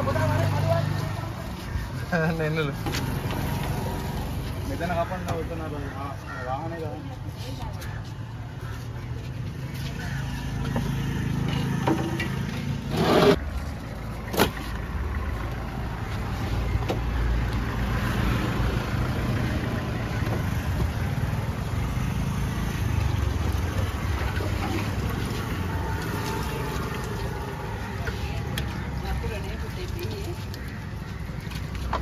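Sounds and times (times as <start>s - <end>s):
low rumble of road traffic: 0.0s - 32.0s.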